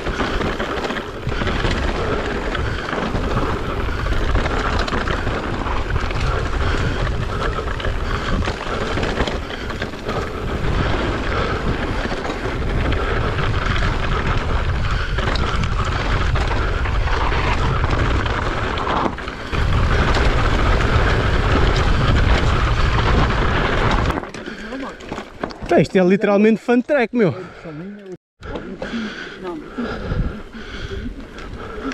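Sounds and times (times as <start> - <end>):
wind rushing over microphone: 0.0 - 24.3, 29.8 - 31.9
bike tyres rolling on dirt: 0.0 - 26.7, 28.4 - 31.9.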